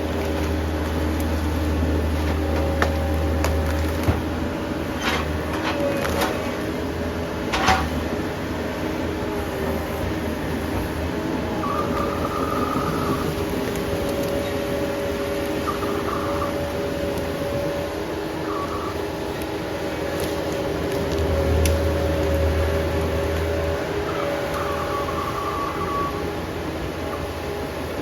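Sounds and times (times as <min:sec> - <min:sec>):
heavy equipment engine running: 0:00.0 - 0:28.0.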